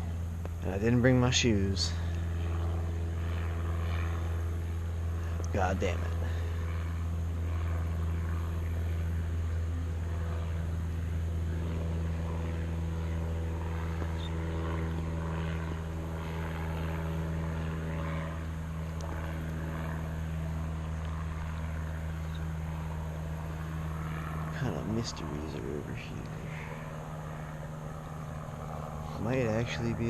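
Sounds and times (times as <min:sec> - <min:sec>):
low motor drone: 0:00.0 - 0:30.0.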